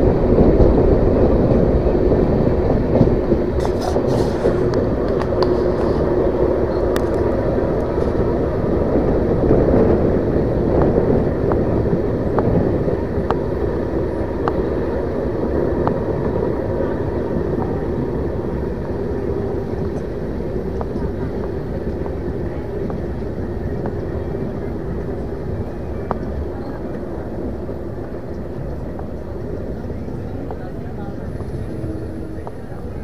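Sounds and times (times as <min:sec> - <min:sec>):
train coach rumbling: 0:00.0 - 0:33.0
wheels clicking over rail joints: 0:00.0 - 0:33.0.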